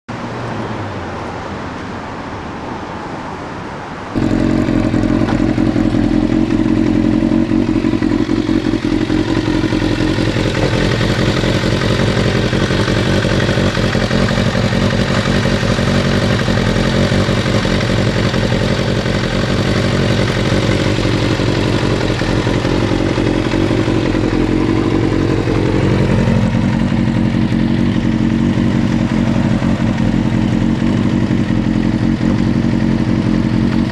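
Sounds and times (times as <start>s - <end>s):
motorcycle engine idling: 4.1s - 33.9s.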